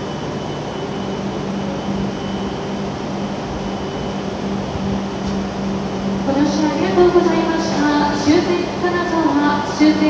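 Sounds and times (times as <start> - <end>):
stationary train fans humming: 0.0 - 10.0.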